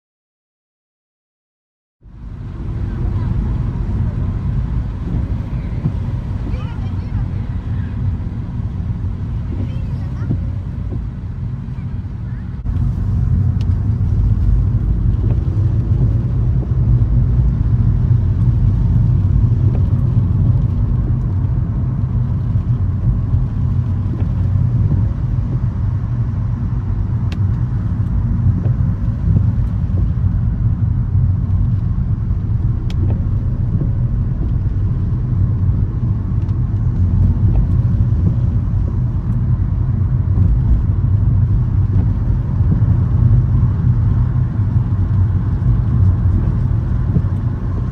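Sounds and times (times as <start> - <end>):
car road and engine rumble: 2.0 - 47.9.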